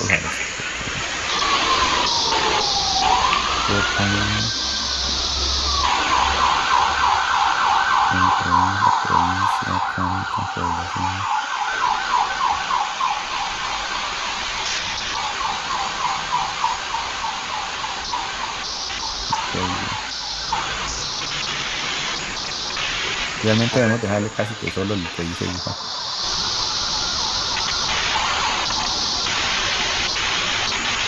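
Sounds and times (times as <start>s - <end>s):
emergency siren yelping: 0.0s - 31.0s.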